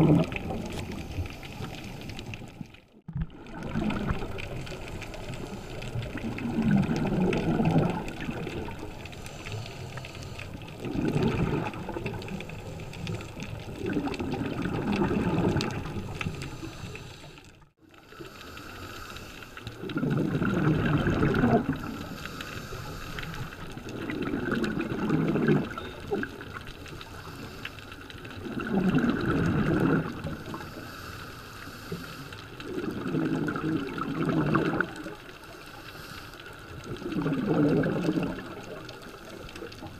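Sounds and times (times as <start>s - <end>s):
underwater exhale bubbles: 0.0s - 39.9s.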